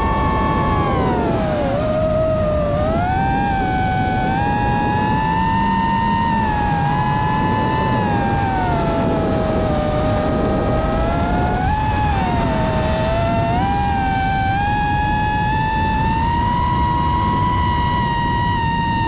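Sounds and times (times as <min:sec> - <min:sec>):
drone propellers whining: 0:00.0 - 0:19.0
wind noise: 0:00.0 - 0:19.0.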